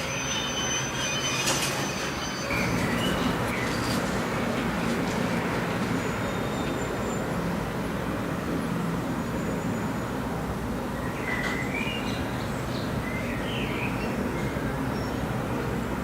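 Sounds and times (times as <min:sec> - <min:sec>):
freight train rolling on rails: 0:00.0 - 0:16.0.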